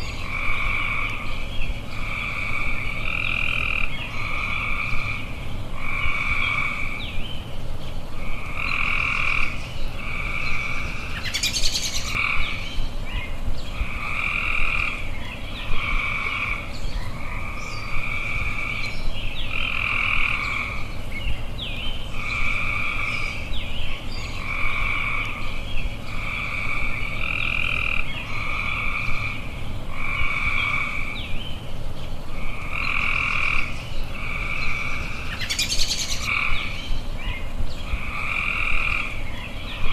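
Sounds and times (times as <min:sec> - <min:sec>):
birds chirping: 0:00.0 - 0:39.9
frogs croaking: 0:00.0 - 0:39.9.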